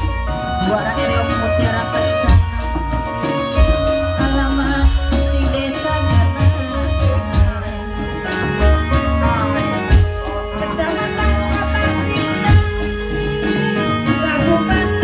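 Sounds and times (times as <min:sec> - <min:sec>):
deep drum beats: 0:00.0 - 0:15.0.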